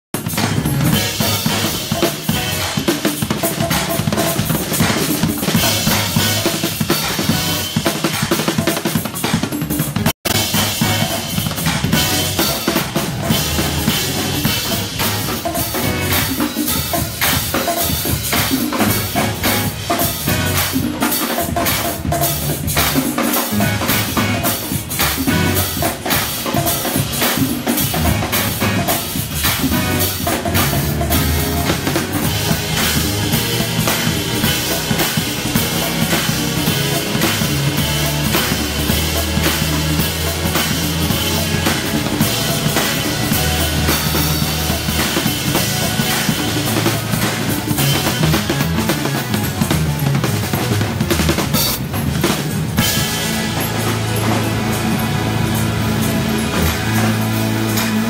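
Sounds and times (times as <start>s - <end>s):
drum kit: 0.0s - 58.0s
live band playing: 0.1s - 58.0s.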